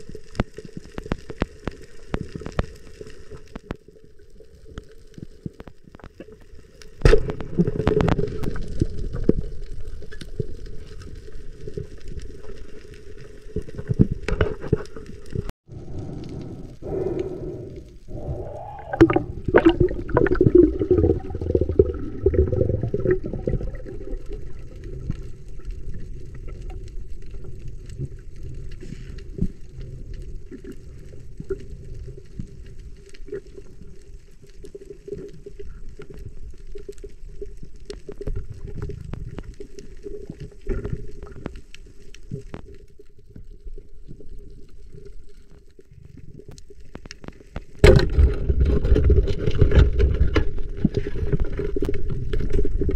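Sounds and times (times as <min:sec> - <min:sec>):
muffled underwater water rumble: 0:00.0 - 0:52.9
small clicks and crackles: 0:00.0 - 0:52.9.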